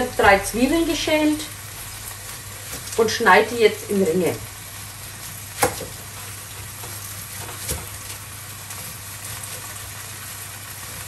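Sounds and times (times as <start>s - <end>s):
liver sizzling in oil: 0.0s - 11.0s.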